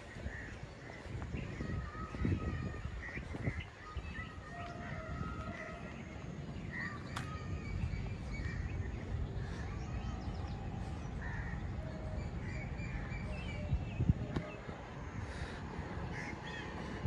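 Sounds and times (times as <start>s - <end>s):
small birds chirping: 0.0s - 14.7s.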